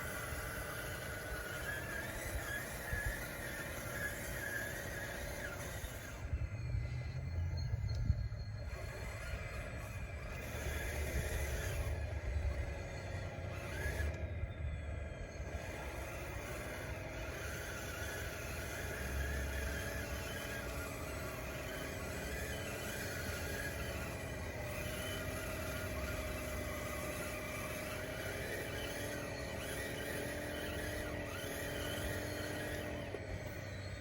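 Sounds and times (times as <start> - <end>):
toy bulldozer motors whining: 0.0 - 34.0.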